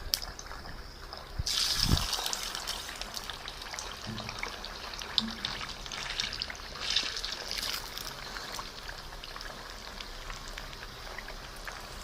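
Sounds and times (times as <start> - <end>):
chicken deep-frying in oil: 0.0 - 12.0
oil popping and crackling: 0.0 - 12.0.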